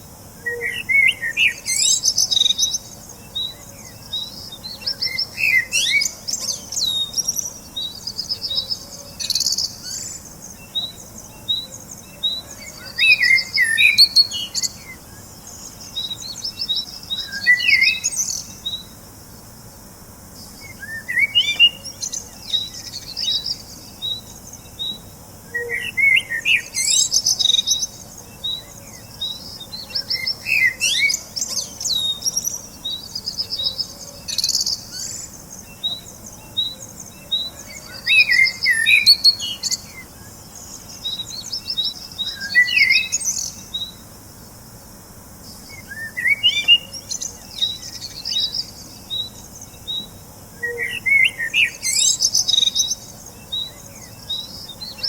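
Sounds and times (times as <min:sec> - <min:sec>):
small birds singing: 0:00.0 - 0:55.0.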